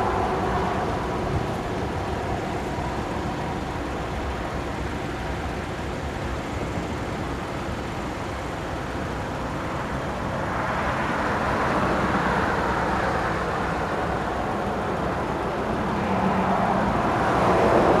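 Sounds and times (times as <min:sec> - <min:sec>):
cars passing on road: 0:00.0 - 0:18.0.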